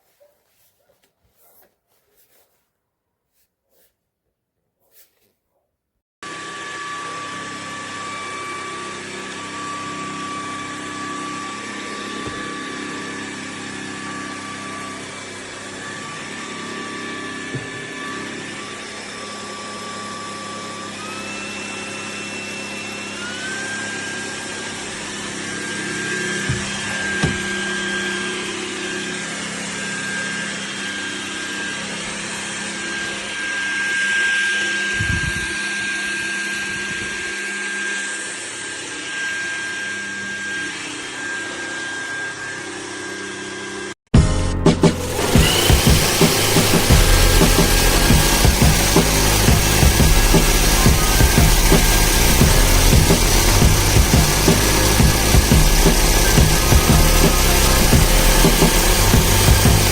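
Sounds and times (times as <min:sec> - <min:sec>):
appliance motor whining: 0:06.3 - 0:43.8, 0:44.8 - 0:59.9.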